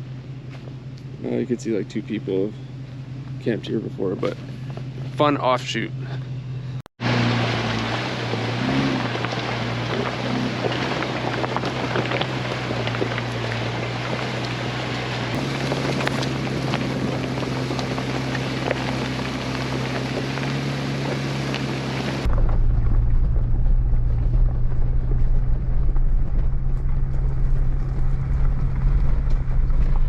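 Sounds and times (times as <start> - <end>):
deep engine rumble: 0.0 - 30.0
tyre and road noise: 0.0 - 30.0
vehicle engine hum: 0.0 - 30.0.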